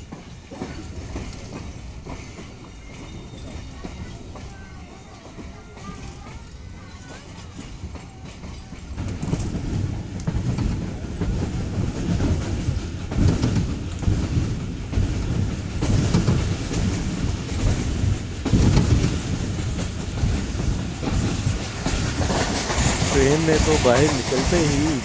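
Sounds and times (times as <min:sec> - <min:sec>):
train wheels rumbling on rails: 0:00.0 - 0:25.0
wheels clattering over rail joints: 0:00.0 - 0:25.0.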